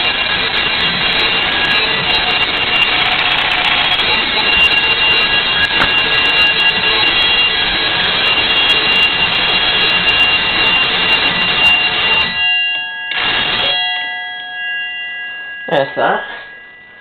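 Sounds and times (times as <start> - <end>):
fire alarm bells ringing: 0.0 - 17.0.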